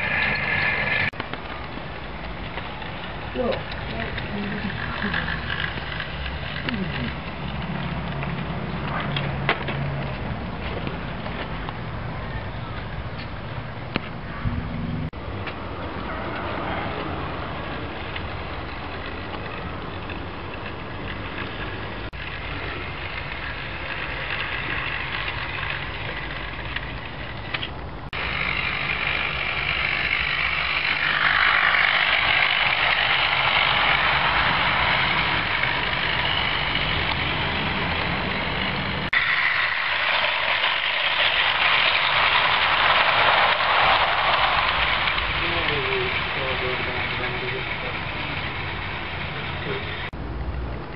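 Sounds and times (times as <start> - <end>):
model train rolling rumble: 0.0 - 50.9.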